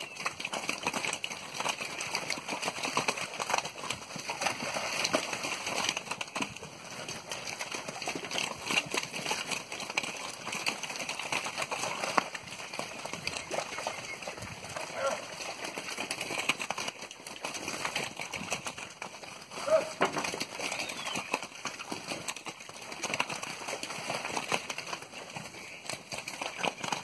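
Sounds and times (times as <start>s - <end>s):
hoofbeats on muddy ground: 0.0s - 27.0s.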